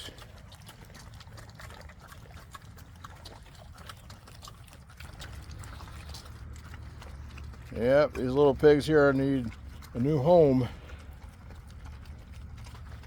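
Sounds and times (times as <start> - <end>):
pigs chewing feed: 0.0 - 13.0.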